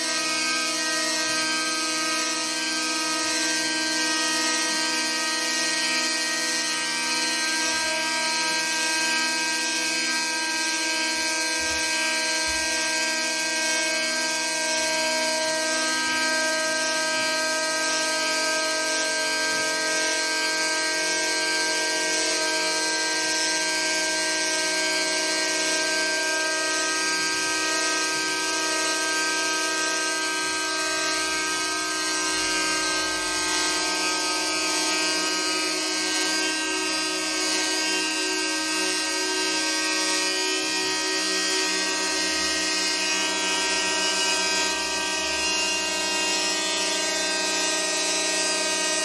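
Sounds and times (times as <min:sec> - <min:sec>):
hurdy-gurdy buzzing drone: 0:00.0 - 0:49.0.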